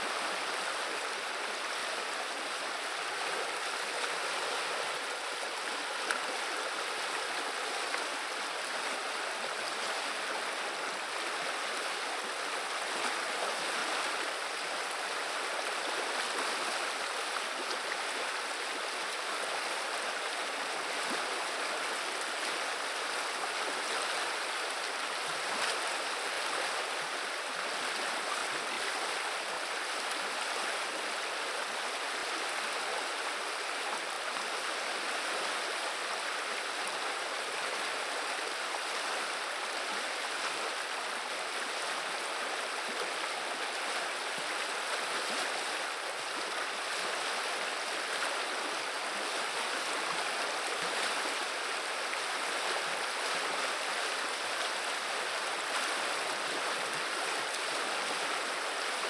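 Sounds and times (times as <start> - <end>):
river water babbling: 0.0 - 59.0.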